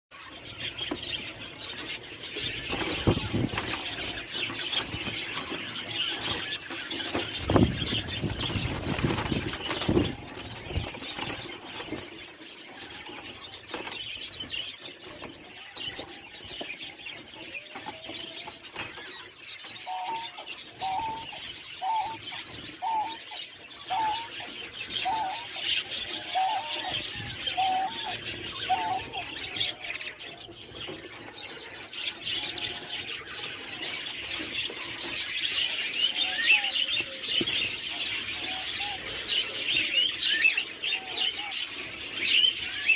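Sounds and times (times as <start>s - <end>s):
small birds chirping: 0.1s - 42.9s
doves cooing: 0.2s - 42.9s.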